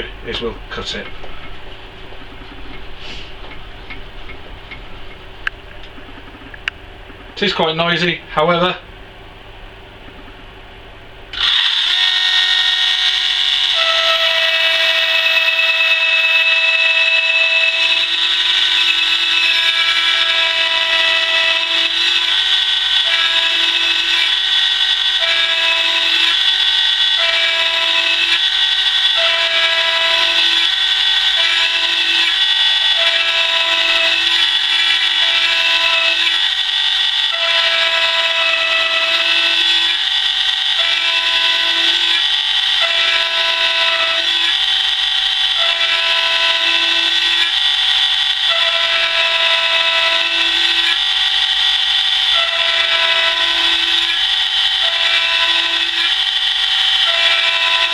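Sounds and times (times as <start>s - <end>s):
key cutting machine grinding: 11.3s - 57.9s.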